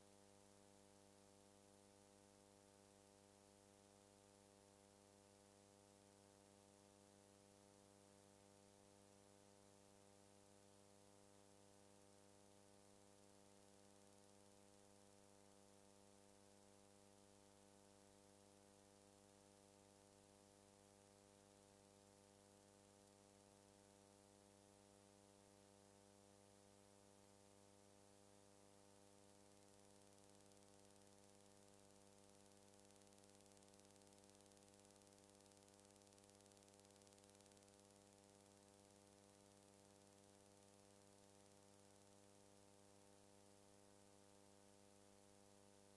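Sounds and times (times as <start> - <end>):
faint electrical hum with hiss: 0.0 - 45.9.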